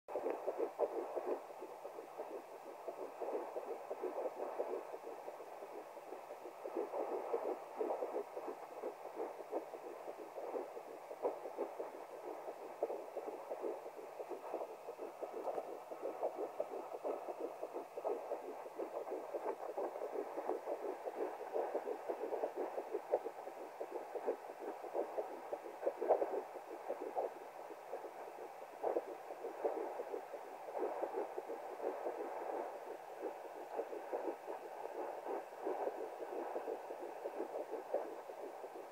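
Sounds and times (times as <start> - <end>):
fetal heartbeat through doppler speaker: 0.1 - 38.9
light steady hiss: 0.1 - 38.9.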